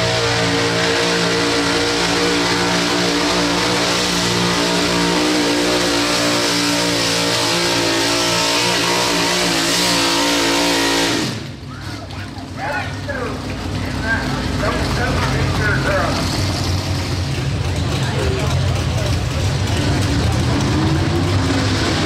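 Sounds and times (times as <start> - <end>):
truck engine revving under load: 0.0 - 11.7, 13.4 - 22.0.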